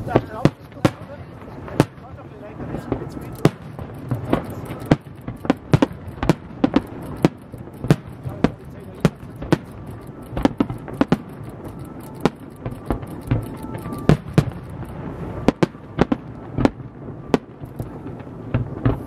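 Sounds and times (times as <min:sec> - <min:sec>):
background rumble and crackle: 0:00.0 - 0:19.0
firework shells bursting: 0:00.0 - 0:19.0.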